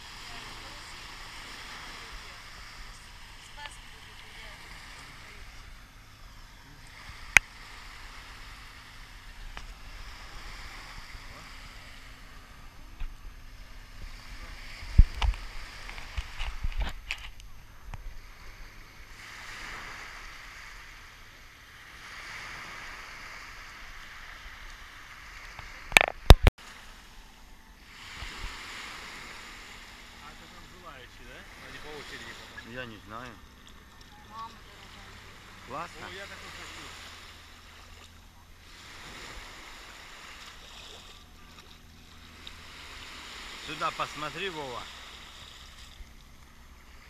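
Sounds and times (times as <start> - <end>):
small waves washing on sand: 0.0 - 47.0.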